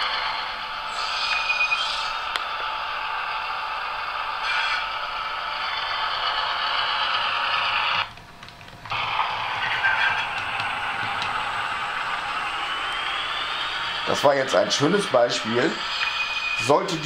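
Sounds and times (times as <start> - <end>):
model train diesel engine sound: 0.0 - 8.2, 8.8 - 17.0.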